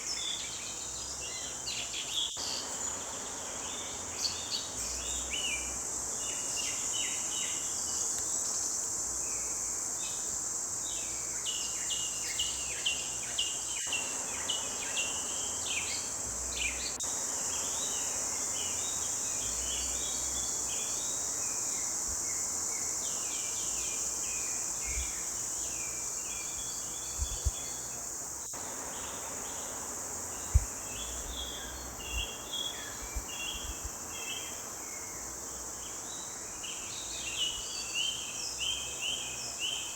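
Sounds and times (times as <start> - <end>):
high insect buzz: 0.0 - 39.9.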